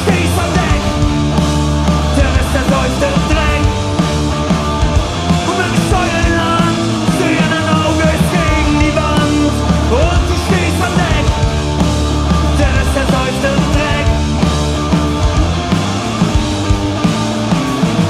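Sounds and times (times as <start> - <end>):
bass guitar: 0.0 - 18.0
drum kit: 0.0 - 18.0
electric guitars: 0.0 - 18.0.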